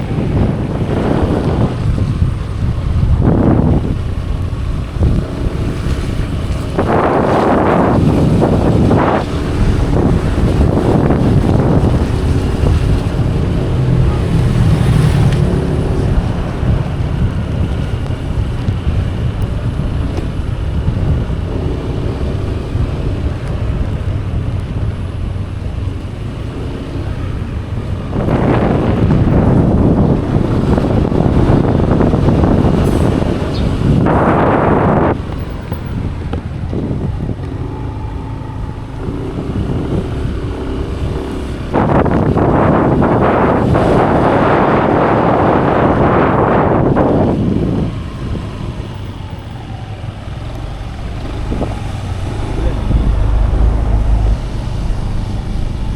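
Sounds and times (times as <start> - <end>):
motorcycle engine running: 0.0 - 49.1
wind rushing over microphone: 0.0 - 55.9.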